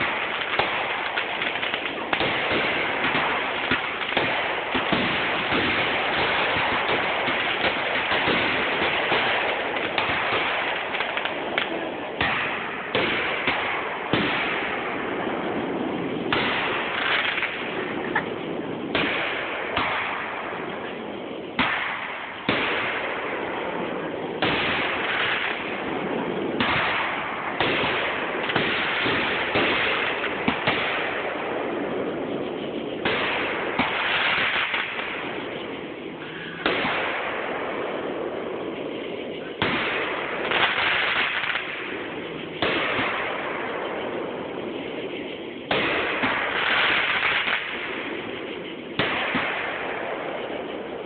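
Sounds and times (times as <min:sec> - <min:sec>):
fireworks bangs: 0:00.0 - 0:51.0
fireworks hissing: 0:00.0 - 0:51.0.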